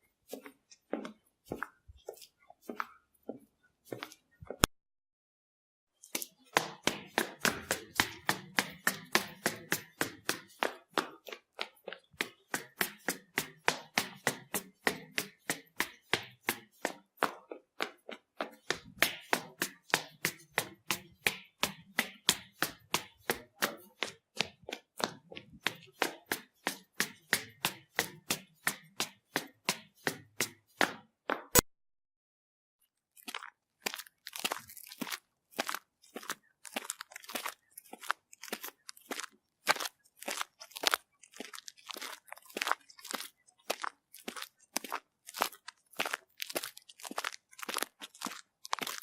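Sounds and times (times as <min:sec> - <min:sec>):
fast footsteps: 0:06.2 - 0:31.6, 0:33.3 - 0:49.0.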